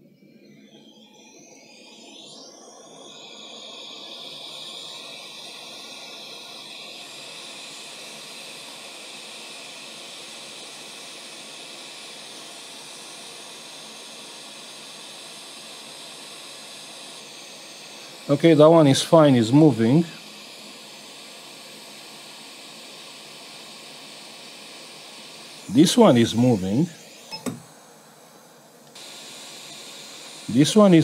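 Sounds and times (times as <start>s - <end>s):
hot air station hissing: 1.2s - 31.0s.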